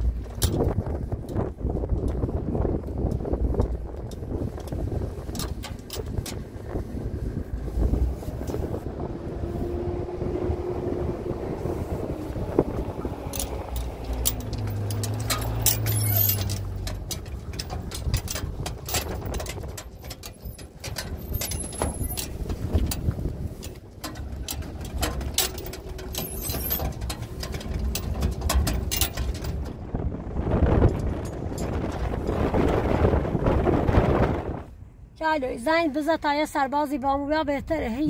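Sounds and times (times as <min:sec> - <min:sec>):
rattles and knocks over ruts: 0:00.0 - 0:36.4
vehicle engine rumble: 0:00.0 - 0:38.0.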